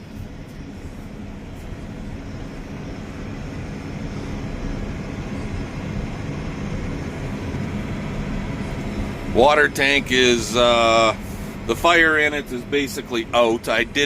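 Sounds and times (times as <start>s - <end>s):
tractor engine drone: 0.0s - 14.0s.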